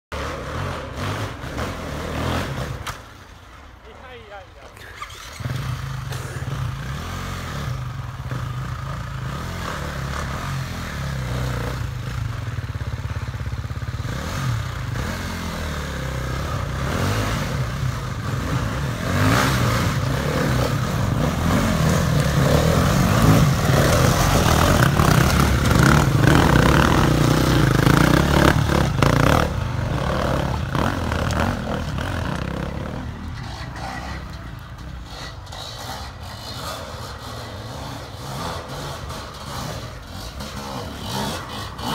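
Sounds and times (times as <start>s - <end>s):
motorcycle engines under load: 0.1s - 41.9s.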